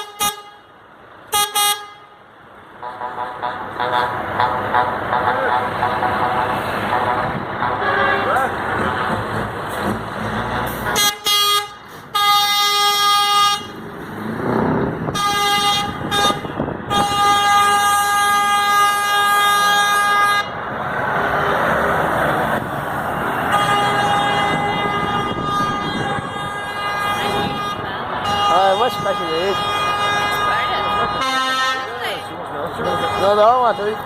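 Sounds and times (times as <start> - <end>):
truck air horn blasts: 0.0 - 2.2, 2.8 - 9.2, 10.6 - 13.8, 15.0 - 20.6, 23.4 - 34.0.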